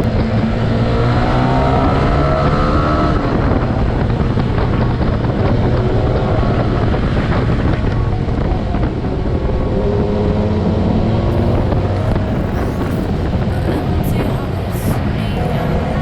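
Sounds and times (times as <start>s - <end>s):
motorcycle engine running: 0.0s - 14.4s
wind rushing over microphone: 0.0s - 16.0s.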